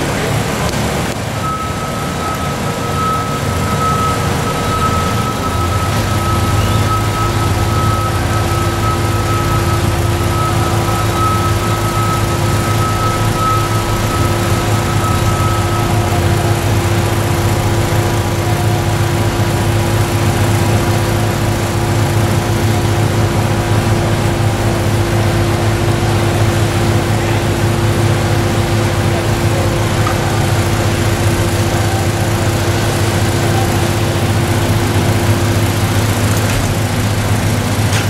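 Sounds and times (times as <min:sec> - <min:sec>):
construction machinery engines droning: 0:00.0 - 0:38.0.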